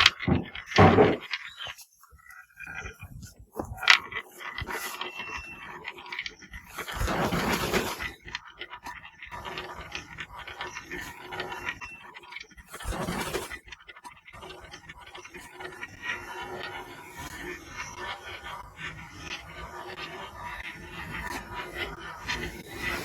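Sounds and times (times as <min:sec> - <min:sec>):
marbles clicking down a track: 0:00.0 - 0:01.8, 0:03.6 - 0:23.0
rushing rattle of marbles: 0:03.6 - 0:23.0.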